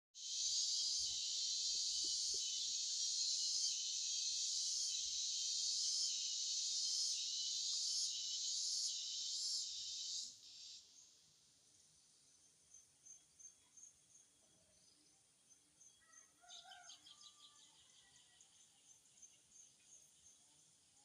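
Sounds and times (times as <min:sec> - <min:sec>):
insects chorus drone: 0:00.2 - 0:21.0.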